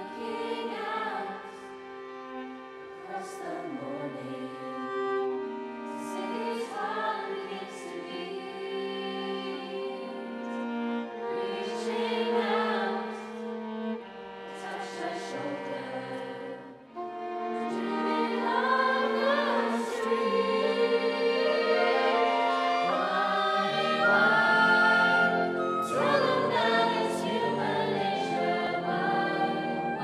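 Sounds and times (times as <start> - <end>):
choir singing held chords: 0.0 - 1.7, 6.0 - 30.0
bowed string ensemble: 0.0 - 30.0.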